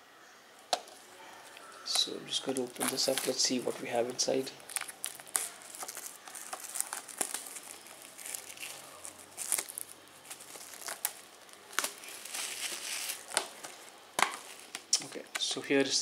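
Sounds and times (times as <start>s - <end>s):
plastic wrap crinkling and tearing: 0.9s - 15.0s.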